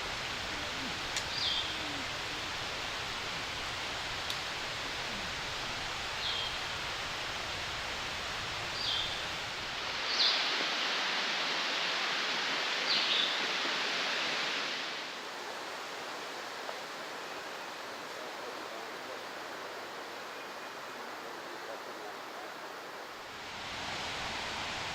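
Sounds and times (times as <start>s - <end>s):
mountain stream rushing: 0.0s - 24.9s.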